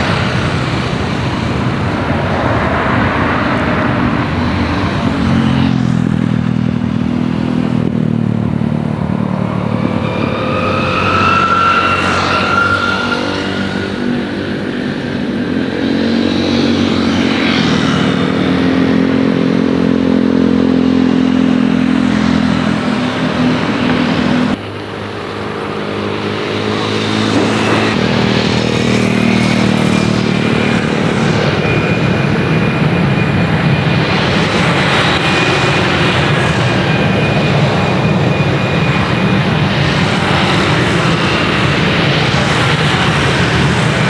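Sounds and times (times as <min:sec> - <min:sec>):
high turbine whine: 0:00.0 - 0:44.0
jet engines running: 0:00.0 - 0:44.0.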